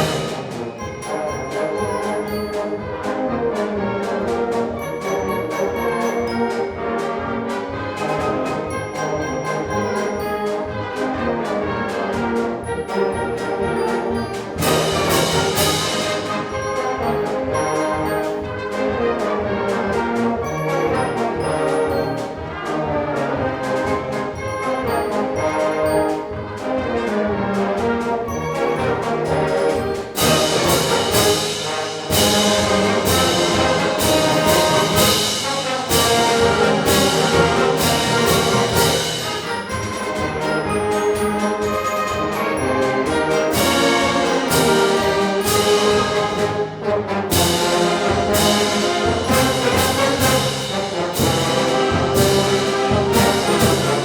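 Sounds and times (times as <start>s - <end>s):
percussion beat: 0.0s - 54.0s
wind band playing a march: 0.0s - 54.0s.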